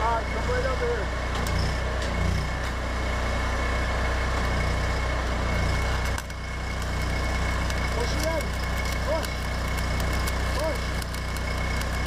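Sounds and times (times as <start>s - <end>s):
low buzzing hum: 0.0s - 12.0s
welding arc crackling hiss: 0.0s - 12.0s.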